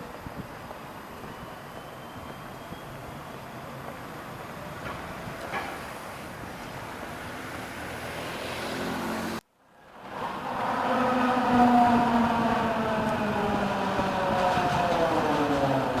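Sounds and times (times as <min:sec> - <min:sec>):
tram electric motors humming: 0:00.0 - 0:07.8, 0:09.9 - 0:16.0
tram rolling on track: 0:00.0 - 0:08.0, 0:09.8 - 0:16.0.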